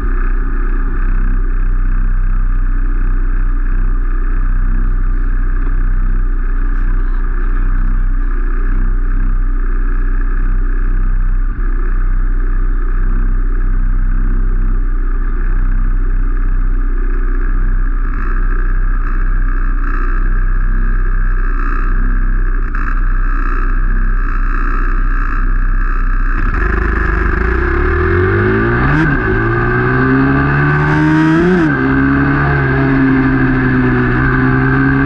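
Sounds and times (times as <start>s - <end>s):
small engines idling: 0.0s - 30.6s.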